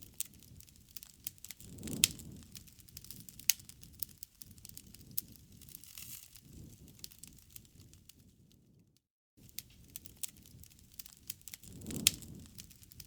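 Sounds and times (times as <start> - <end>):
wood fire crackling: 0.0 - 8.8, 9.4 - 13.0
low rumble of burning: 0.0 - 13.0.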